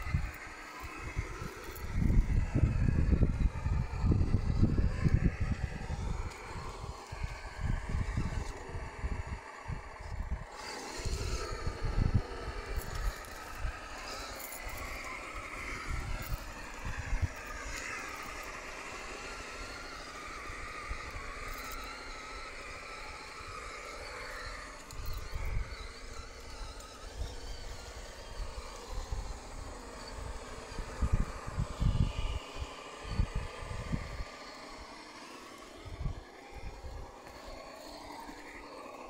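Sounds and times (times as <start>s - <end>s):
toy truck motor whining: 0.0s - 39.0s.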